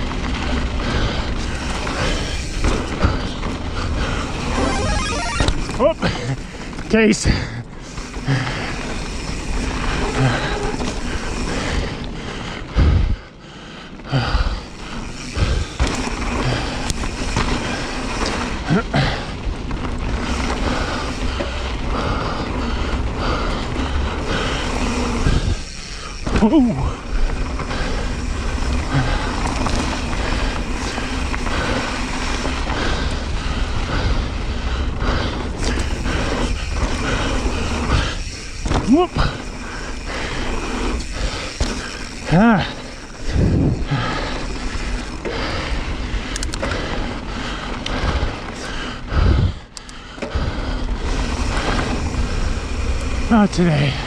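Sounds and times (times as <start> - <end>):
bike tyres rolling over dirt: 0.0 - 54.0.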